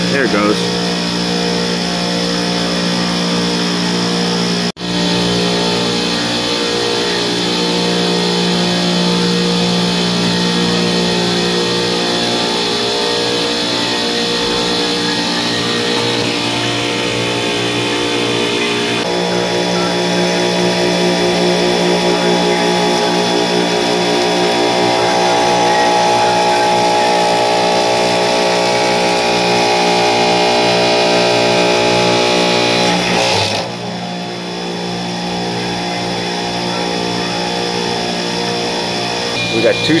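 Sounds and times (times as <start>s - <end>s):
refrigeration compressor humming: 0.0s - 40.0s.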